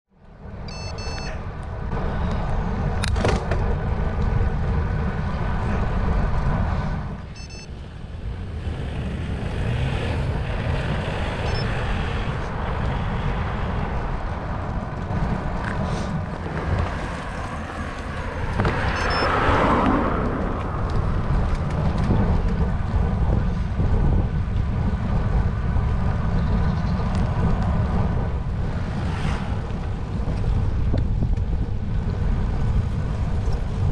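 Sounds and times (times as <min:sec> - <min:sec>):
wind buffeting microphone: 0:01.5 - 0:33.9
bike tyres rolling on tarmac: 0:01.6 - 0:33.9.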